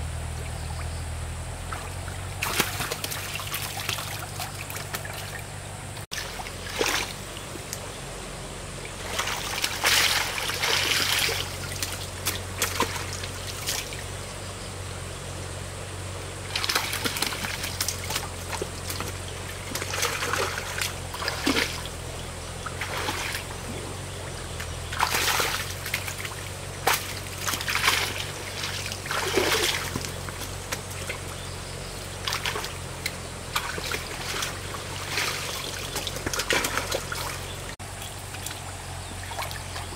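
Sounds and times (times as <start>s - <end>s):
water trickling: 0.0s - 14.4s, 16.3s - 39.9s
water splashing: 0.0s - 14.5s, 15.9s - 39.9s
steady low hum: 0.0s - 39.9s.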